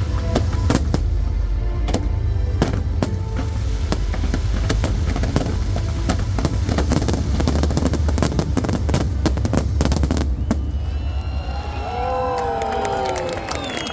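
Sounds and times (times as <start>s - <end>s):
fireworks bangs and crackling: 0.0s - 11.8s
deep rumble: 0.0s - 12.0s.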